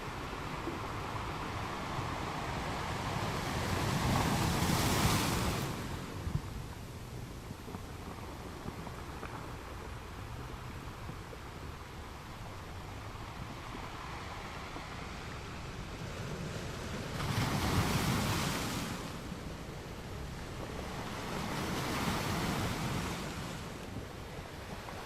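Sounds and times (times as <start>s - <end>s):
ocean waves on a beach: 0.0s - 25.0s.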